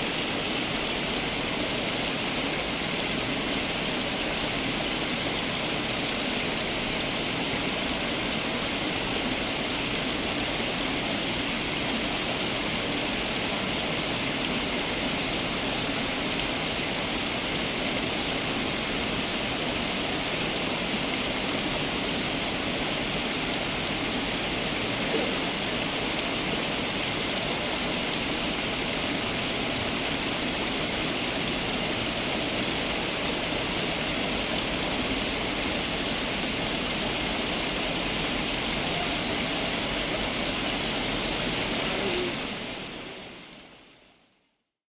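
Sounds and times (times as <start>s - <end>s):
fountain water splashing: 0.0s - 44.3s.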